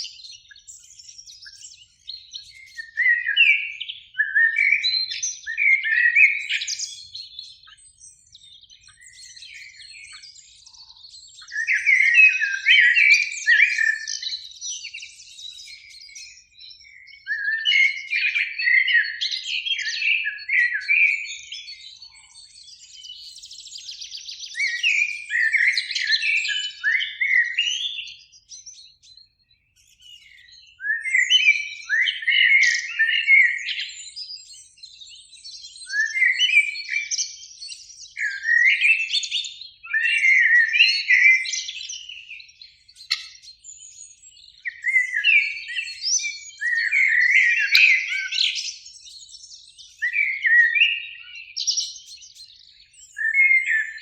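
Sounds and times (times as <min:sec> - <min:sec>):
blackbird singing: 0:00.0 - 0:54.0.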